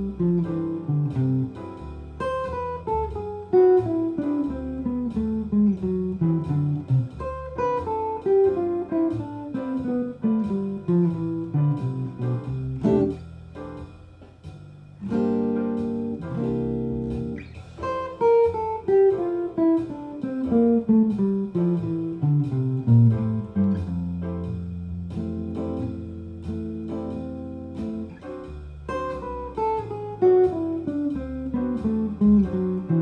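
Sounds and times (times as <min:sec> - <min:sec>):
jazz guitar playing scales: 0:00.0 - 0:33.0.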